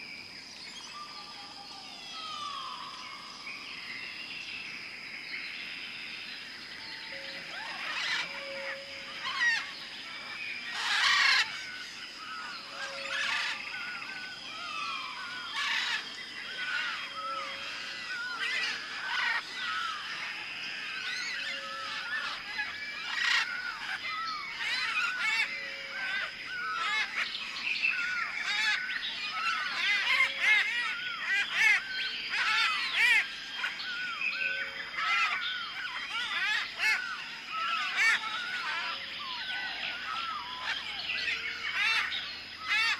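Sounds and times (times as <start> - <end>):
birds chirping and whistling: 0.6 - 4.5, 6.8 - 42.9.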